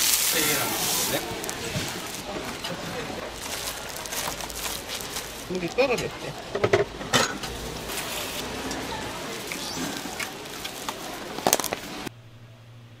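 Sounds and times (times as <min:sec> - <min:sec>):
steady crackling: 0:00.0 - 0:12.1.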